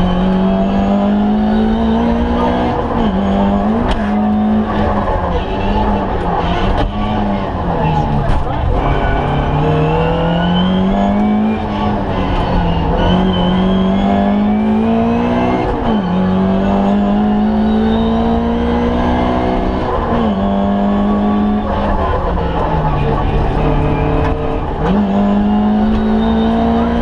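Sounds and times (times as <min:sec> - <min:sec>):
car engine revving high: 0:00.0 - 0:27.0
gear changes: 0:00.0 - 0:27.0.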